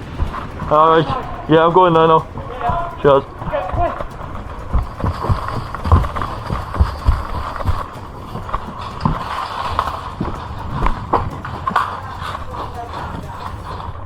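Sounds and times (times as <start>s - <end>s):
footsteps thudding: 0.0s - 14.0s.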